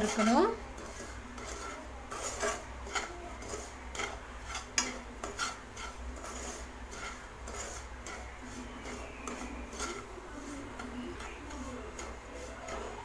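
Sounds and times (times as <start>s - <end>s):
spoon scraping and tapping a pan: 0.0s - 13.0s.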